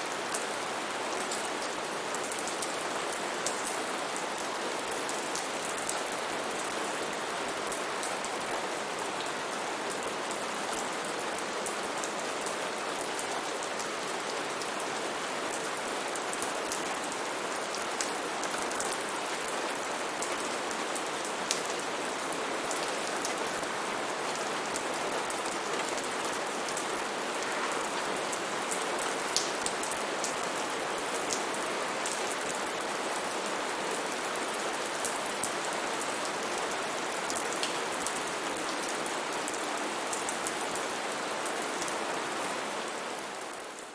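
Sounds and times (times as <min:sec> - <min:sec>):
rain falling on foliage: 0:00.0 - 0:43.9.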